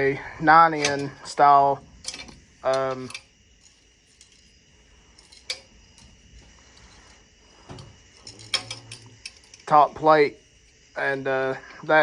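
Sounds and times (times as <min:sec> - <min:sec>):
metal parts clinking: 0:00.7 - 0:11.3.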